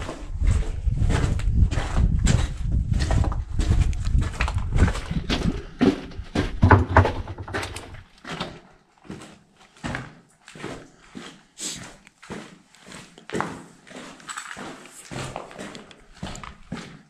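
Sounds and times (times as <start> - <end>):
footsteps crunching on rubble: 0.0 - 17.0.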